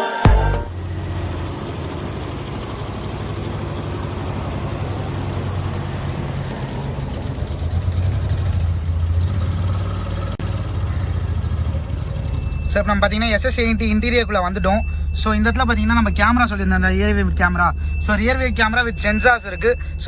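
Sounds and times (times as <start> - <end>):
car engine idling with low growl: 0.7 - 20.0.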